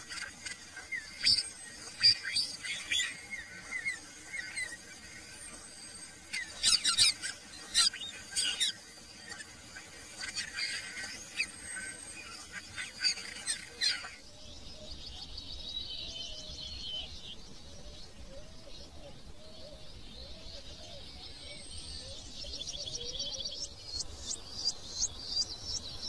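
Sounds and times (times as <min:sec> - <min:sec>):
birds chirping and whistling: 0:00.0 - 0:26.0
faint rapid high bird trill: 0:00.0 - 0:26.0.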